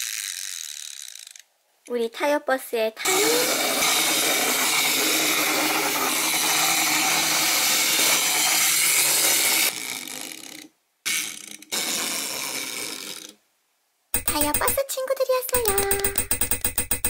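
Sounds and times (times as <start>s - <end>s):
wind-up toy motors whirring: 0.0s - 1.5s, 3.0s - 13.4s, 14.2s - 14.8s, 15.5s - 17.0s.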